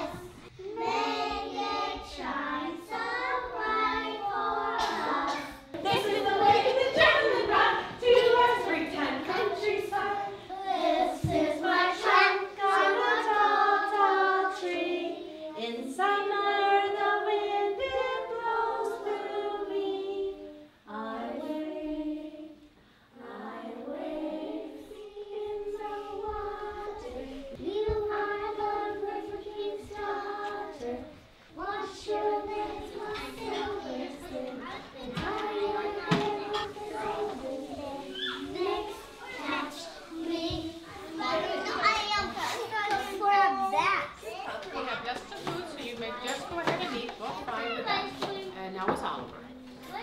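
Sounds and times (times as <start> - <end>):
woman and children singing: 0.0 - 43.6, 45.2 - 50.0.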